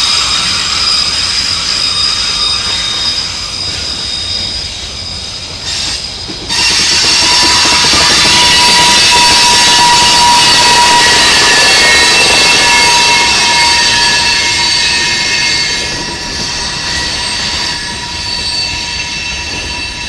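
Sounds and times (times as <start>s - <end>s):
train wheels rumbling: 0.0s - 20.0s
wheel flanges squealing on rail: 0.0s - 20.0s.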